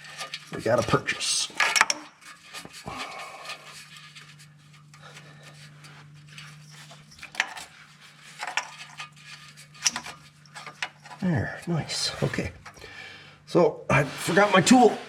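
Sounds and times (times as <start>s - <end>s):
faint metal scraping: 0.0s - 13.2s, 13.9s - 15.0s
steady low hum: 0.0s - 15.0s.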